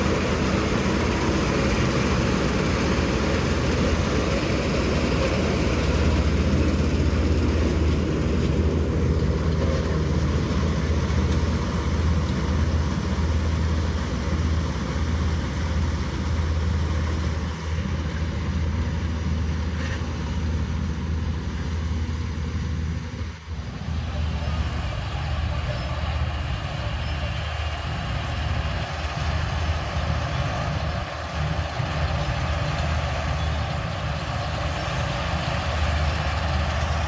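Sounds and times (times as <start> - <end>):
low engine drone: 0.0 - 37.0.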